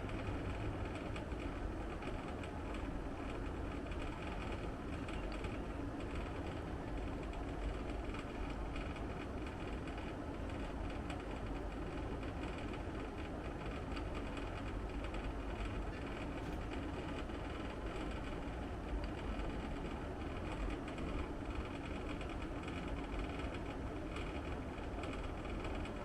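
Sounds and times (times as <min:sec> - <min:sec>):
air conditioner blower fan: 0:00.0 - 0:26.0.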